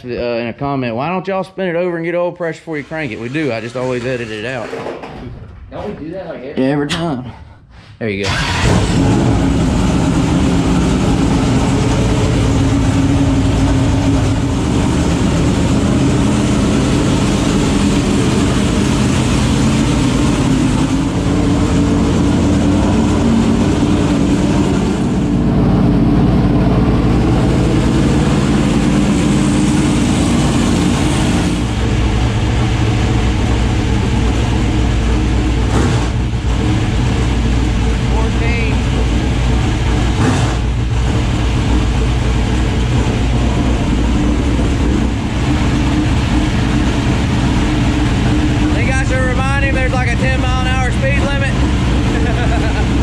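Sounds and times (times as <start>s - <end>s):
race car engine running: 8.2s - 53.0s.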